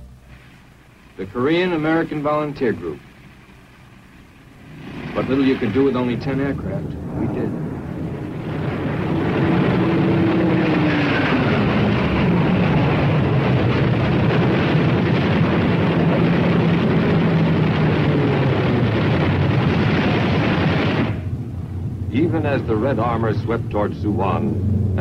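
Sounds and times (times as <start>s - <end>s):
aircraft engine running: 0.0s - 25.0s
rushing noise: 0.0s - 25.0s.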